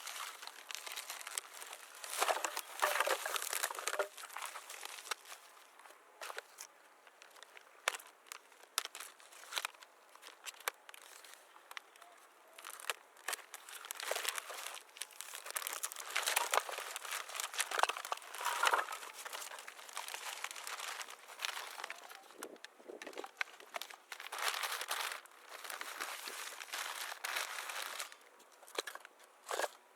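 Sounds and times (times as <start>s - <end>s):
crinkling and rustling: 0.0s - 29.9s.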